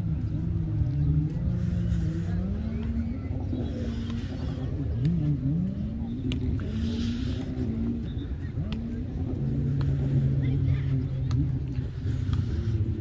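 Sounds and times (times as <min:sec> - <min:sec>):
engine rumbling and revving: 0:00.0 - 0:13.0.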